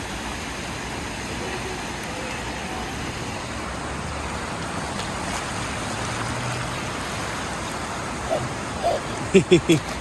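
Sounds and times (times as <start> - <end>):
waves breaking on shore: 0.0 - 10.0.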